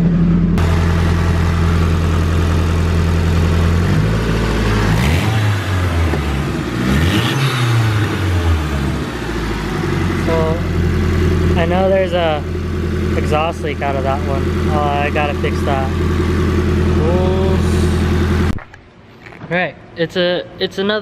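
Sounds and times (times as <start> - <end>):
car engine idling and revving: 0.0 - 18.6.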